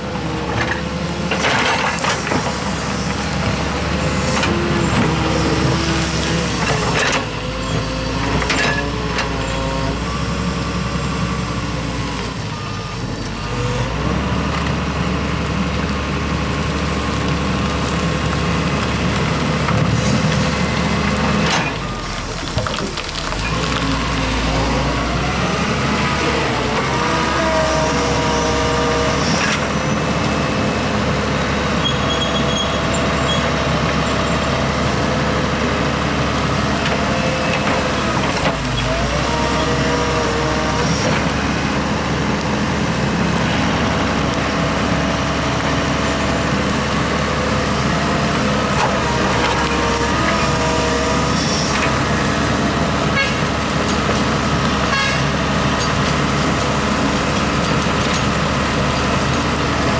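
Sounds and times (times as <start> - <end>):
diesel excavator engine: 0.0 - 59.9
dump truck engine: 0.0 - 59.9.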